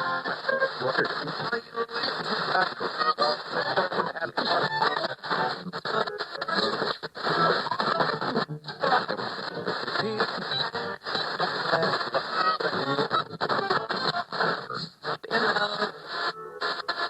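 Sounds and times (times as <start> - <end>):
radio tuning between stations: 0.0 - 17.0.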